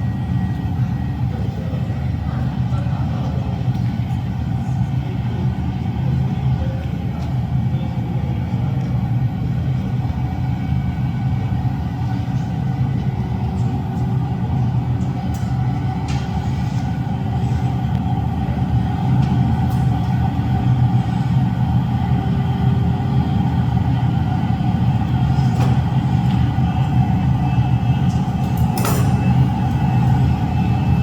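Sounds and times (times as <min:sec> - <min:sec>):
furnace burners rumbling: 0:00.0 - 0:31.0.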